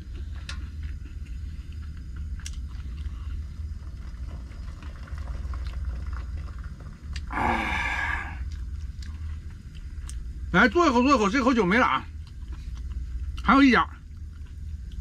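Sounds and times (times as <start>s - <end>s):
low rumble of cooker: 0.0s - 15.0s.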